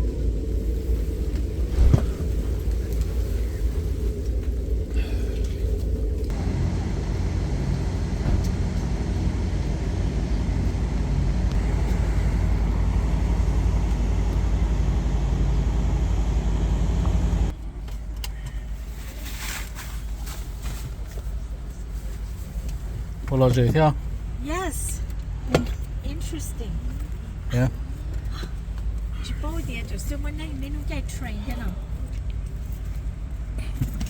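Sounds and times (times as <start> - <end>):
train rumbling inside coach: 0.0 - 34.0.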